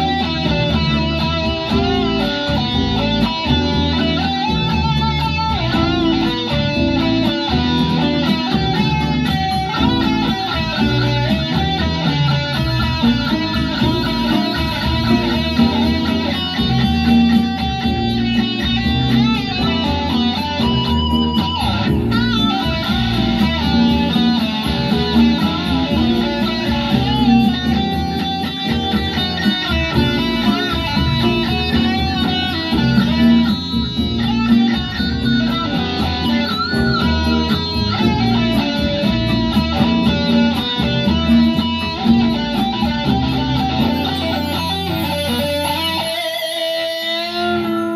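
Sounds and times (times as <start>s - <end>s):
electric guitar with bent notes: 0.0s - 47.9s.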